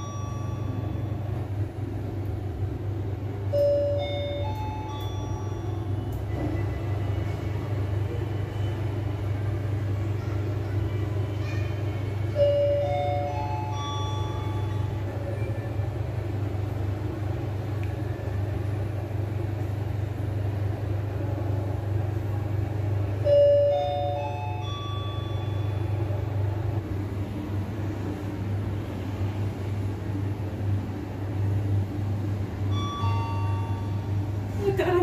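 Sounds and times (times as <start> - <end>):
elevator arrival chime: 0.0 - 26.9, 31.3 - 35.0
steady low hum: 0.0 - 35.0.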